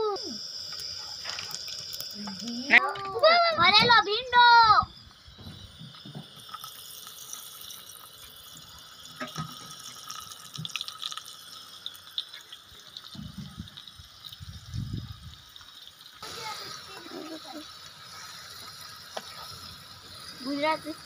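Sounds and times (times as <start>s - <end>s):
okra sizzling in hot oil: 0.0s - 21.0s.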